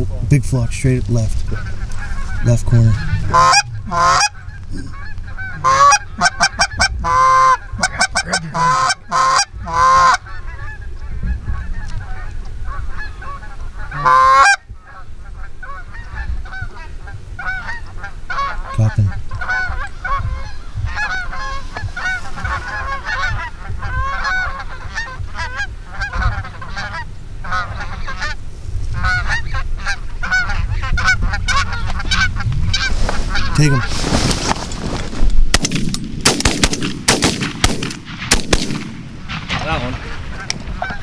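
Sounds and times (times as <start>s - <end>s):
geese honking: 1.1s - 34.4s, 38.9s - 41.0s.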